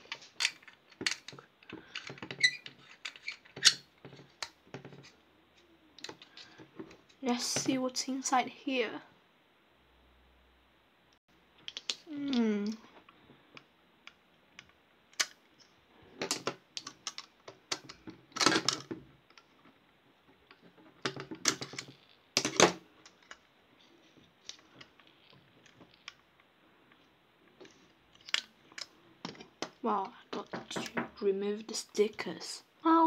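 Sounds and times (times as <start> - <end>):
plastic parts clicking and scraping: 0.0 - 7.8, 11.6 - 31.8.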